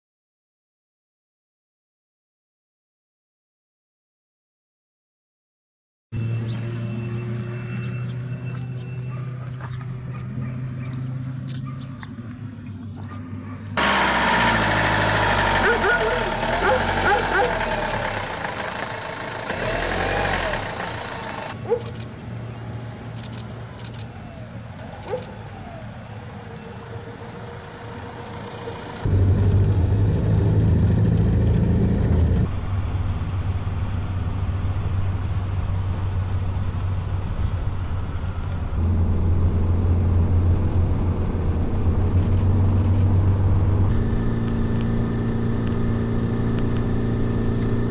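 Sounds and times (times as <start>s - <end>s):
van engine humming: 6.2s - 47.9s.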